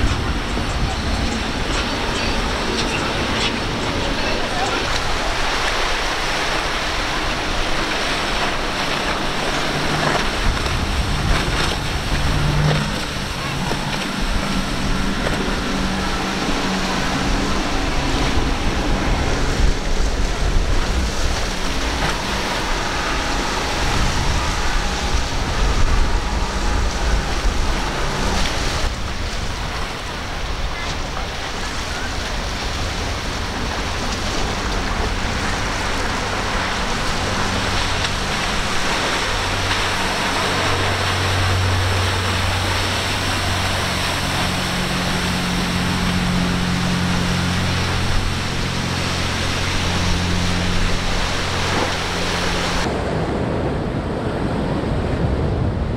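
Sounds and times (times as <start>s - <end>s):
hissing spray and wake: 0.0s - 52.9s
boat engines droning: 0.0s - 55.9s
outboard engines roaring: 0.0s - 55.9s
rushing water: 0.0s - 55.9s
wind buffeting microphone: 0.0s - 55.9s.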